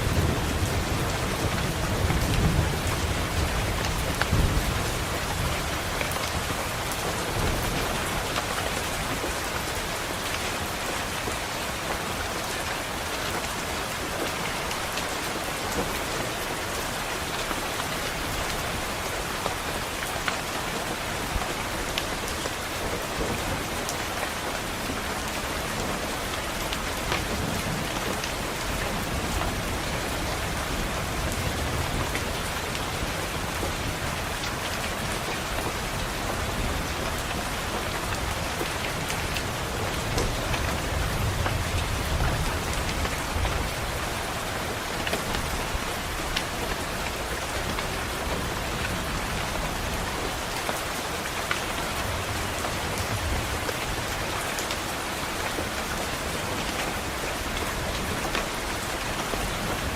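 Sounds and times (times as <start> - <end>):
rain on a window pane: 0.0 - 59.9.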